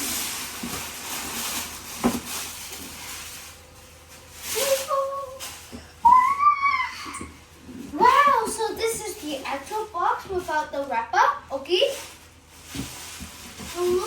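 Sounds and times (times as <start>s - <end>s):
plastic shrink-wrap crinkling: 0.0s - 14.0s.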